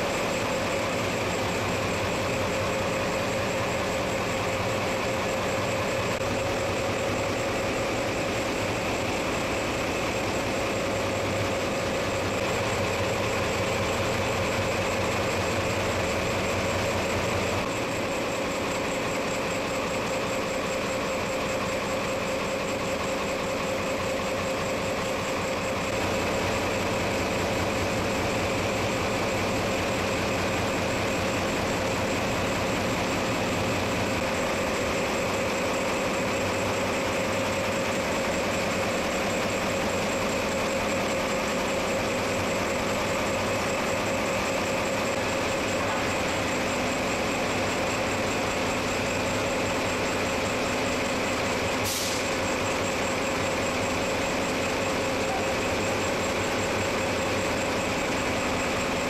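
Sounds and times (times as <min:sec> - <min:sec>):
engine room machinery drone: 0:00.0 - 0:59.0.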